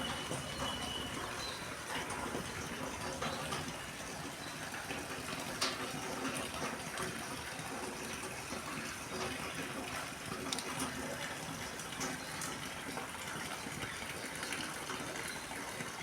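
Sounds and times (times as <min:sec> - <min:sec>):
steady rain falling: 0:00.0 - 0:16.0
water drip ticks: 0:00.0 - 0:16.0.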